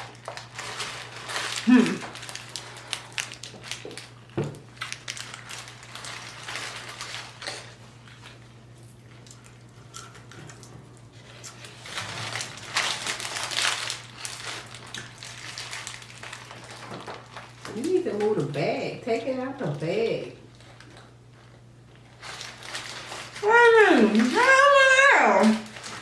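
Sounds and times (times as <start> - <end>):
paper bag and wrappers crinkling: 0.0 - 10.4, 11.1 - 26.0.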